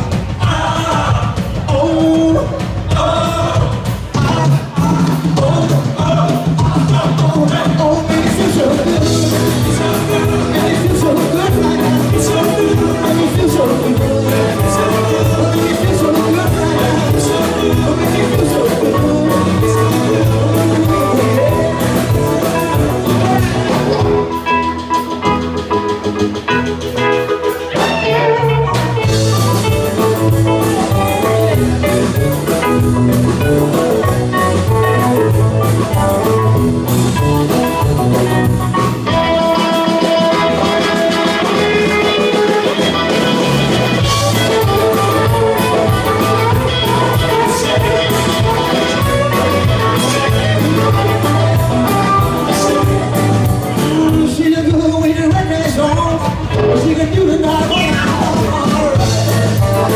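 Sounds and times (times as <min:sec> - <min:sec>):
person singing: 0:00.0 - 0:24.9, 0:27.0 - 0:36.6, 0:37.2 - 0:59.9
rock band playing: 0:00.0 - 0:59.9.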